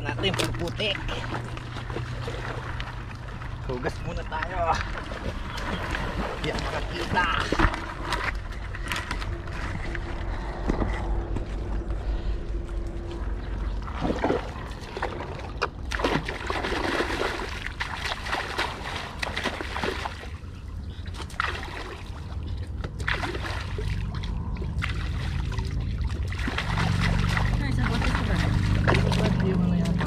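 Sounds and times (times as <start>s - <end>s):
shallow water splashing: 0.0s - 10.6s, 12.9s - 30.0s
steady low rumble: 0.0s - 30.0s.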